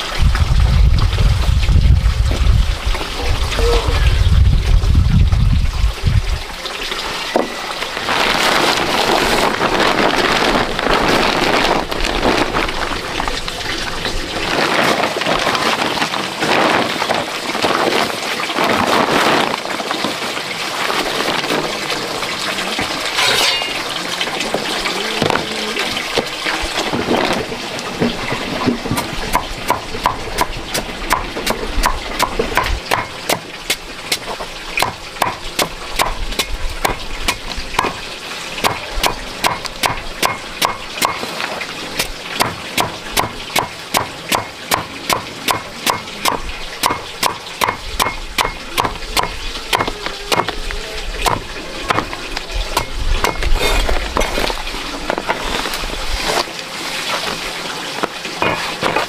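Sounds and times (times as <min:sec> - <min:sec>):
water splashing and trickling: 0:00.0 - 0:59.0.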